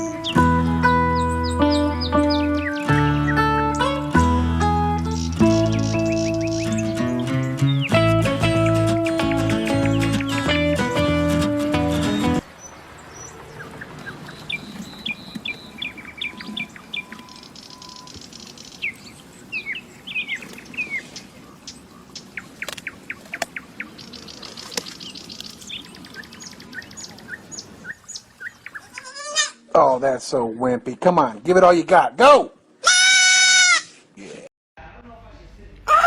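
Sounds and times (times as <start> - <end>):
songbirds chirping: 0.0 - 32.1.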